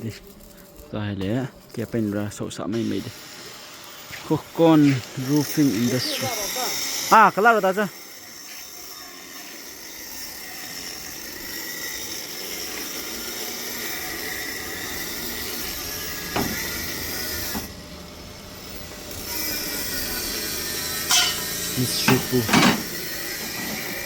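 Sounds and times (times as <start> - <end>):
hissing of metal repair work: 0.0 - 24.0.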